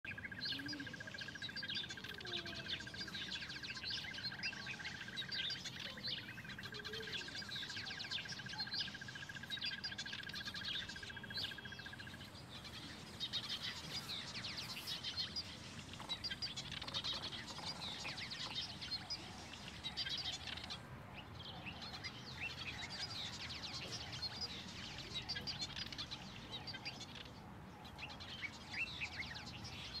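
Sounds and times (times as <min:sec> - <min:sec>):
birds chattering and chirping: 0:00.0 - 0:30.0.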